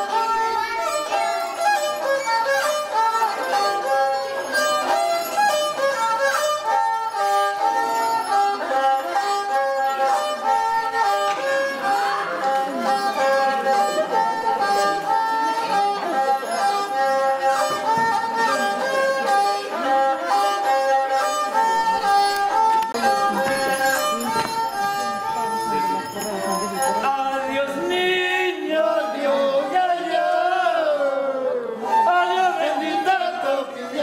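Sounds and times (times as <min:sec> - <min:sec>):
traditional violin music: 0:00.0 - 0:34.0.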